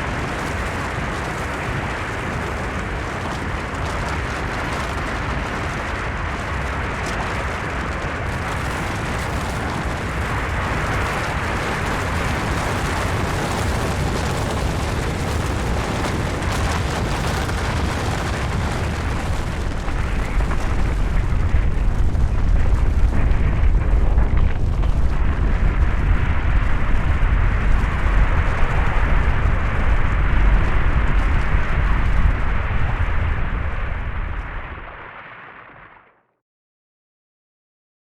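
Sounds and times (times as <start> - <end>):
avalanche rushing rumble: 0.0 - 35.8.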